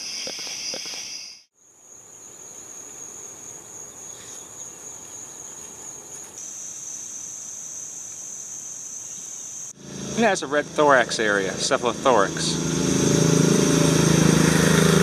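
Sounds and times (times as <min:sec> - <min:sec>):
chorus of calling insects: 0:00.0 - 0:15.0
very high insect drone: 0:00.0 - 0:15.0.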